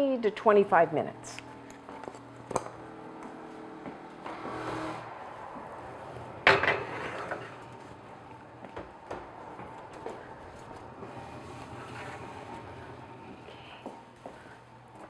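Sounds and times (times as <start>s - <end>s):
oven fan hum: 0.0s - 15.0s.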